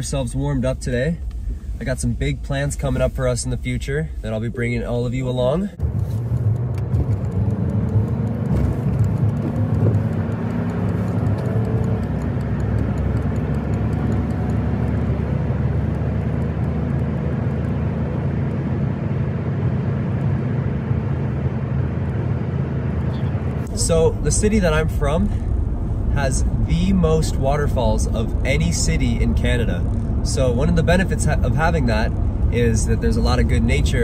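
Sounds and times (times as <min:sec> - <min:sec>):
car road and engine hum: 0:00.0 - 0:34.0.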